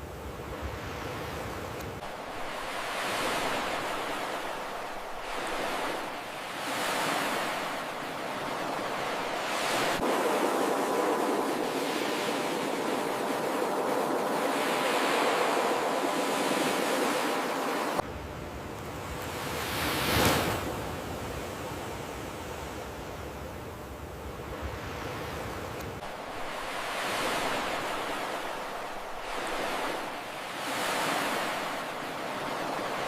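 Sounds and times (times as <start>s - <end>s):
ocean surf washing: 0.0s - 23.1s, 24.3s - 33.0s.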